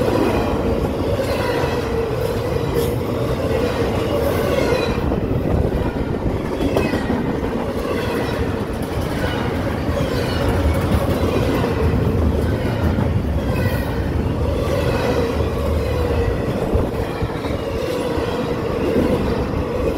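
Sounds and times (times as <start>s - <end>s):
freight train wheels rumbling on rails: 0.0s - 19.9s.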